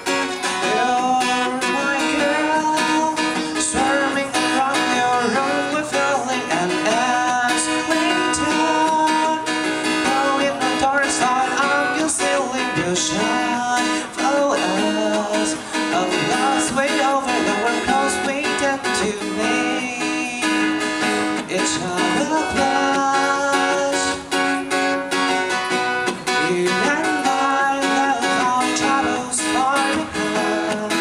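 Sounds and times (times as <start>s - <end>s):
acoustic guitar strumming: 0.0s - 31.0s
picked guitar melody: 0.0s - 31.0s.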